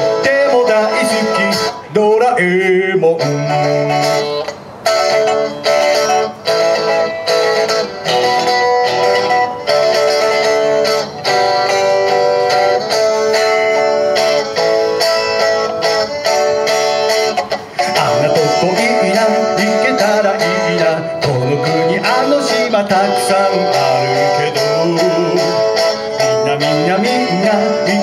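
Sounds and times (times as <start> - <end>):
electric guitar strumming chords: 0.0 - 28.0.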